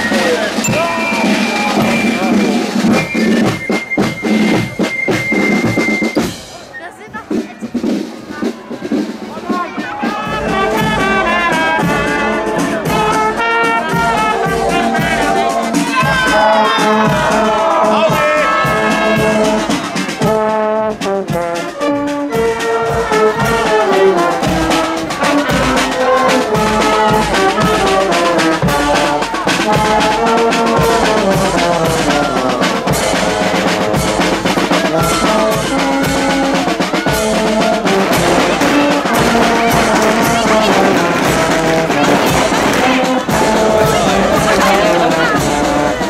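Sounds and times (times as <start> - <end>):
brass and woodwind band playing: 0.0 - 46.0.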